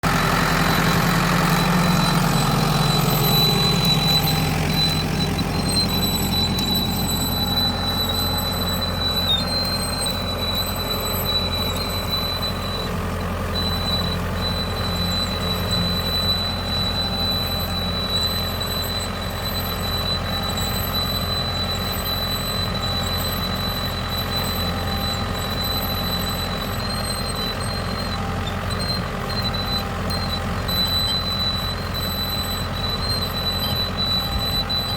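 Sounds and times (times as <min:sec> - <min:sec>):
high-pitched whine: 0:00.0 - 0:28.1
tractor diesel engine running: 0:00.0 - 0:34.9.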